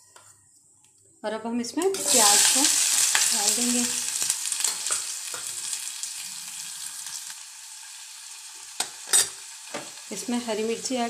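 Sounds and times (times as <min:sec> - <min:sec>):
onions sizzling in oil: 0:01.9 - 0:11.0.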